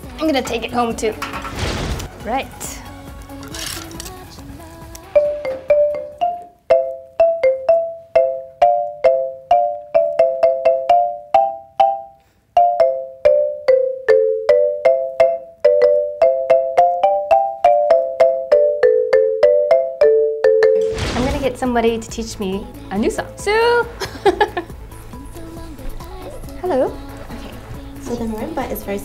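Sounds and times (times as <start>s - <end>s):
marimba notes: 5.0s - 29.0s.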